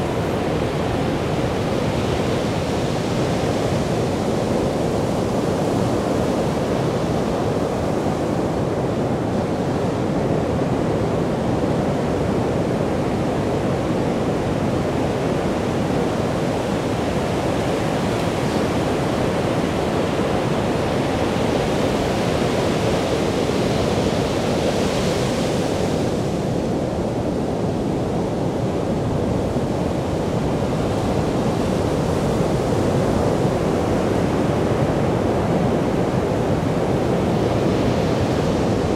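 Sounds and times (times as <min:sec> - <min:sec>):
surf washing up a beach: 0:00.0 - 0:38.9.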